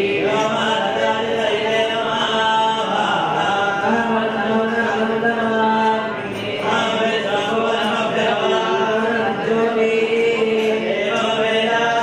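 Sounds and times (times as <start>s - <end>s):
person chanting mantras: 0.0s - 12.0s.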